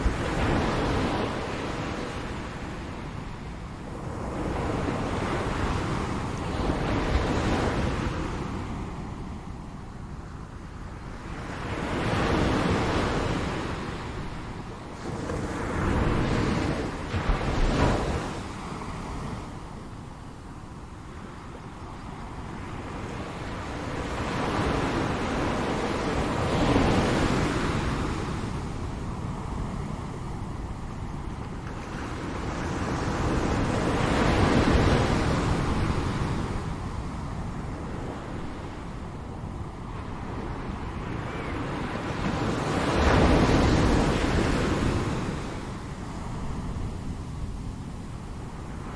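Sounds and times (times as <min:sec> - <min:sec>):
wind noise on microphone: 0:00.0 - 0:48.9.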